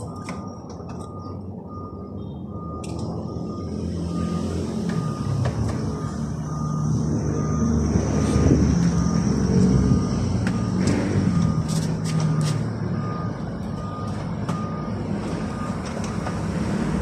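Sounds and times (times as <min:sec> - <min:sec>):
reversing alarm beeping: 0:00.0 - 0:17.0.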